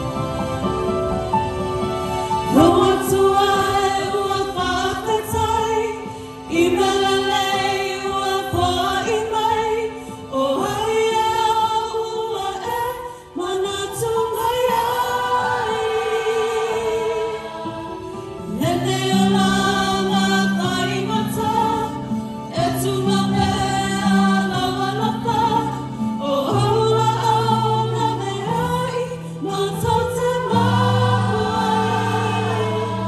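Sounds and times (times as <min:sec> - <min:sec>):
choir singing a carol: 0:02.4 - 0:33.0.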